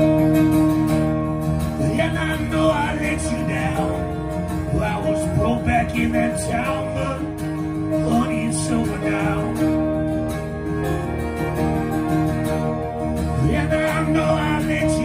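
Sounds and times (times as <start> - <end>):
fiddle playing sliding notes: 0.0 - 15.0
strummed acoustic guitar: 0.0 - 15.0.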